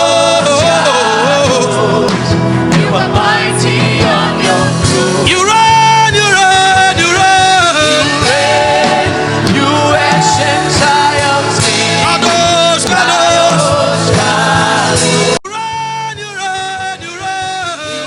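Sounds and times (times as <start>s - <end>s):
instrumental accompaniment: 0.0s - 18.0s.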